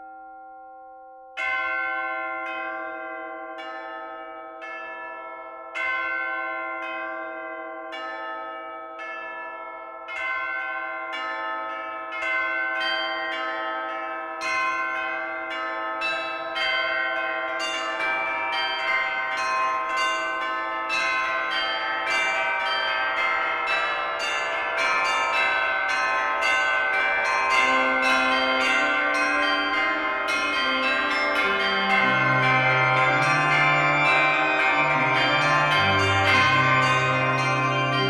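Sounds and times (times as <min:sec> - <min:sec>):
church bells ringing: 0:00.0 - 0:38.0.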